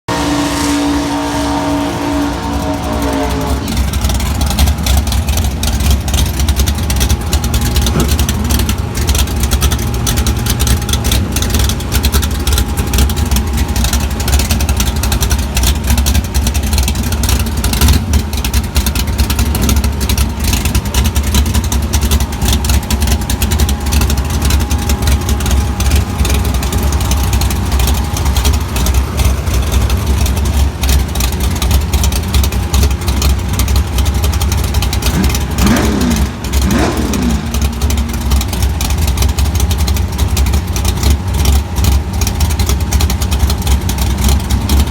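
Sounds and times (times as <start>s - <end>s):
car engine idling choppily: 1.0s - 44.9s.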